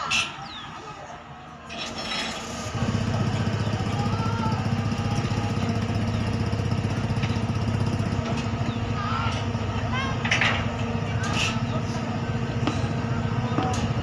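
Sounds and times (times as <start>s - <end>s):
engine idling: 1.6s - 14.0s.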